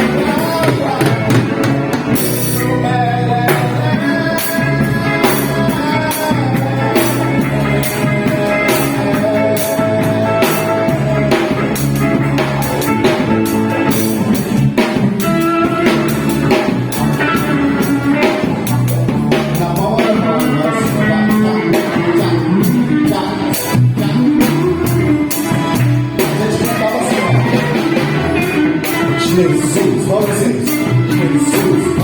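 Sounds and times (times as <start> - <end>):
drum kit steady beat: 0.0 - 32.0
guitar: 0.0 - 32.0.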